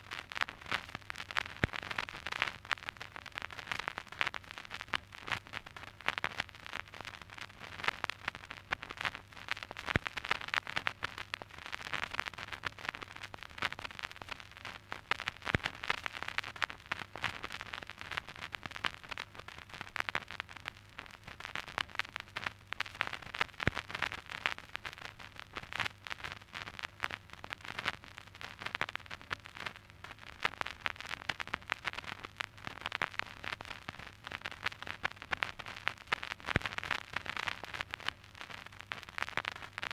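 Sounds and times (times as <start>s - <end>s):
vinyl record crackle and pops: 0.0s - 39.9s.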